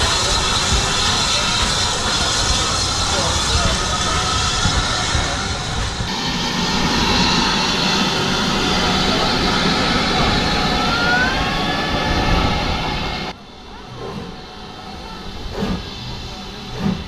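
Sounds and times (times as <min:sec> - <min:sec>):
piston engine droning: 0:00.0 - 0:17.0.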